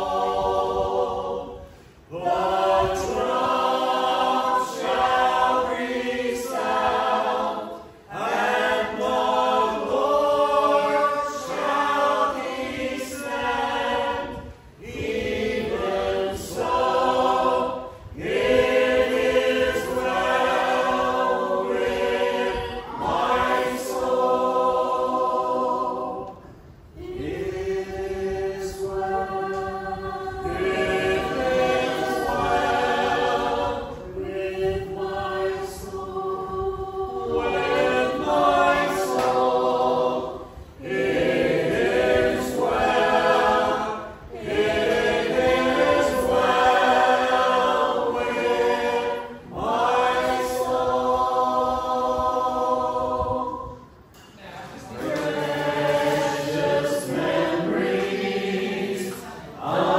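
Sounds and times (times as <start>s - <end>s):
group singing a hymn unaccompanied: 0.0s - 59.9s.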